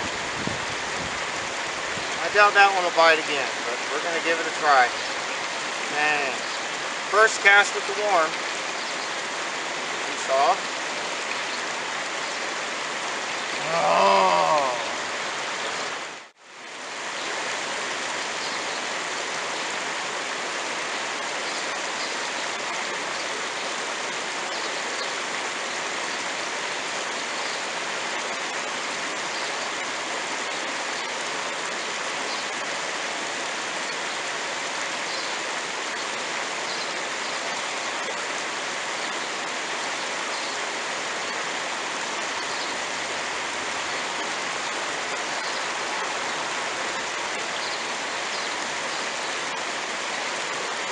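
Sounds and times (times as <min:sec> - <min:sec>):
creek water flowing: 0:00.0 - 0:50.9.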